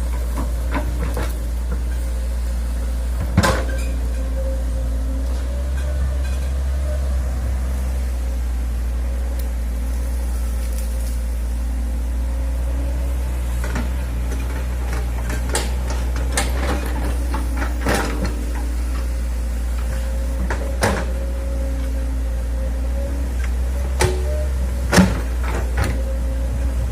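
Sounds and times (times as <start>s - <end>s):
excavator engine drone: 0.0s - 26.9s.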